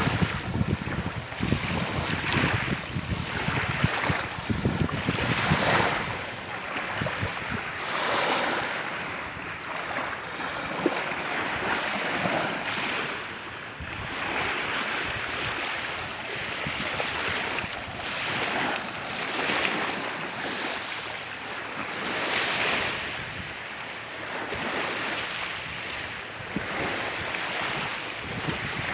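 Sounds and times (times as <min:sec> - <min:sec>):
sea waves washing onto beach: 0:00.0 - 0:28.9.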